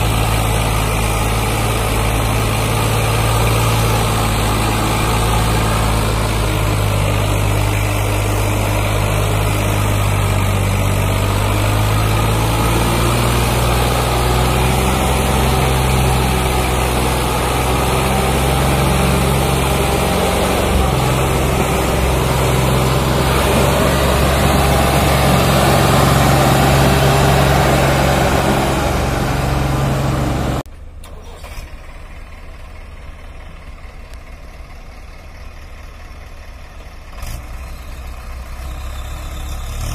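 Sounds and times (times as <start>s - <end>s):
tractor diesel engine working hard: 0.0s - 39.9s.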